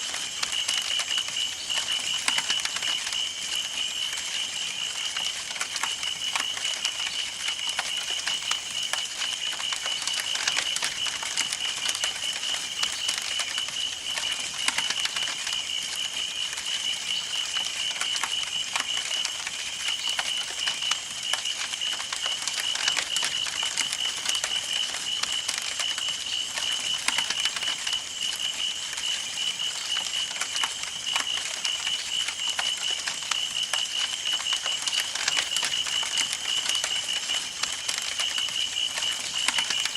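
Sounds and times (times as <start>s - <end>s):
campfire wood crackling and popping: 0.0s - 39.9s.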